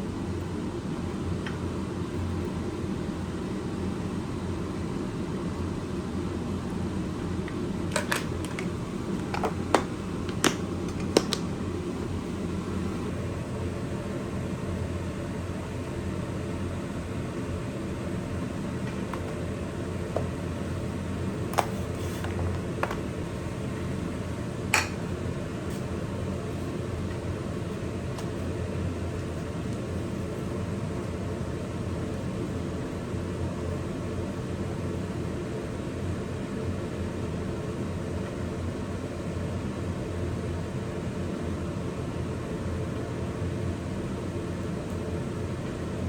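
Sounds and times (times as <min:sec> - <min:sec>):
low mechanical hum: 0:00.0 - 0:46.0.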